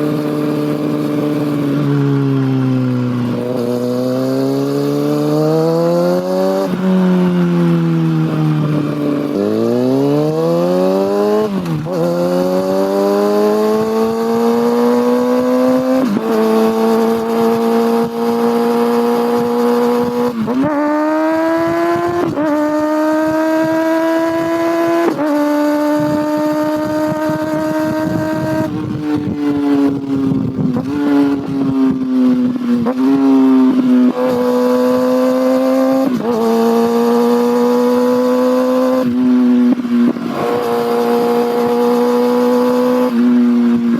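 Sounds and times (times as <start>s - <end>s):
motorcycle engine accelerating: 0.0s - 43.9s
motorcycle engine revving: 0.0s - 43.9s.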